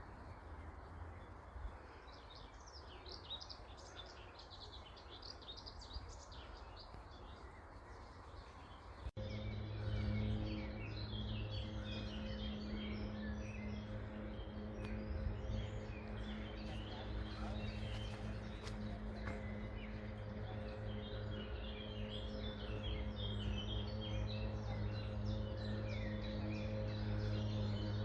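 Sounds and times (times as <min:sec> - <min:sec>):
low hum: 0:00.0 - 0:28.0
outdoor background noise: 0:00.0 - 0:28.0
songbirds chirping: 0:00.0 - 0:28.0.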